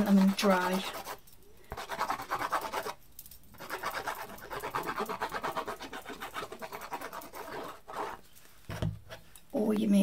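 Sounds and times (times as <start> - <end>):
pen scratching on card: 0.0 - 8.2.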